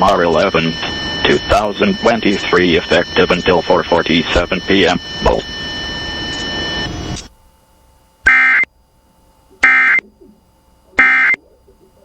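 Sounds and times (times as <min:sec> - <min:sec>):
warbling data tone bursts: 0:00.0 - 0:07.3, 0:08.3 - 0:08.7, 0:09.3 - 0:12.0
hissy background with steady tones: 0:00.0 - 0:12.0.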